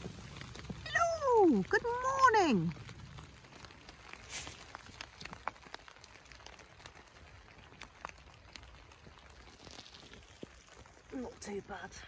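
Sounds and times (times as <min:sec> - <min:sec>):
faint steady hiss: 0:00.0 - 0:12.0
raindrops ticking: 0:00.0 - 0:12.0.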